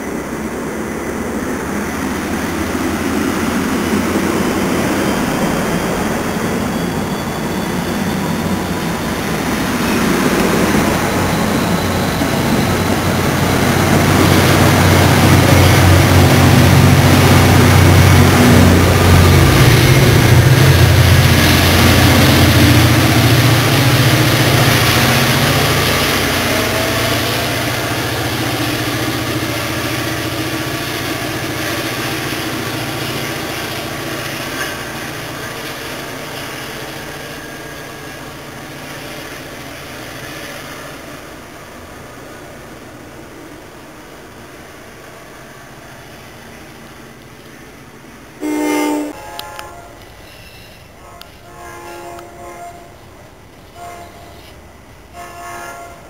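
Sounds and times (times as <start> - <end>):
diesel locomotive engine: 0.0 - 56.0
train cars rolling past: 0.0 - 56.0.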